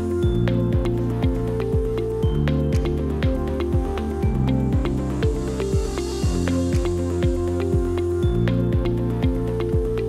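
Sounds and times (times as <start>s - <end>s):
upbeat background music: 0.0s - 10.0s
kick drum beat: 0.2s - 10.0s.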